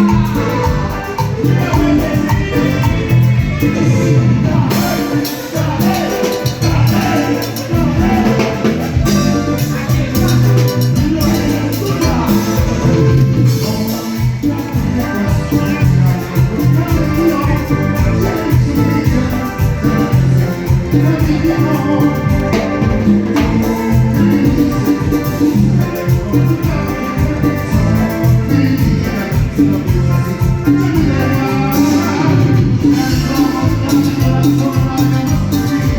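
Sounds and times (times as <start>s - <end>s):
heavy bass line: 0.0s - 35.9s
live band playing latin dance music: 0.0s - 35.9s
percussion: 0.0s - 35.9s.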